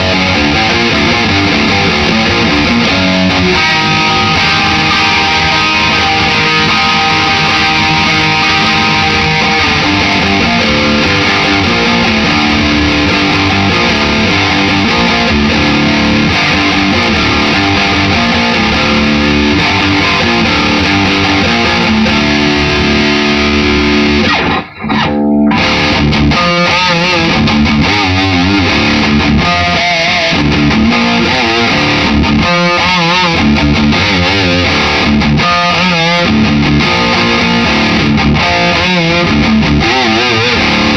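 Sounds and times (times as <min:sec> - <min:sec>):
distorted electric guitar riffing: 0:00.0 - 0:40.9.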